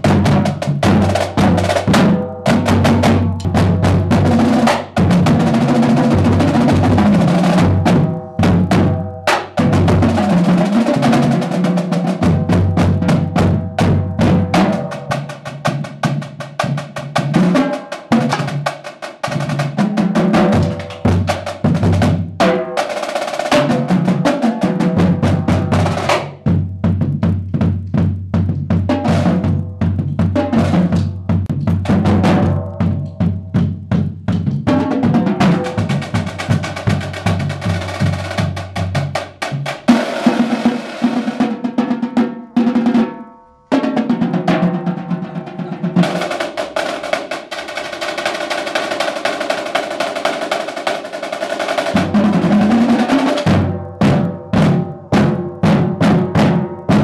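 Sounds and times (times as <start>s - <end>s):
marching drumline playing: 0.0s - 43.1s, 43.7s - 57.0s.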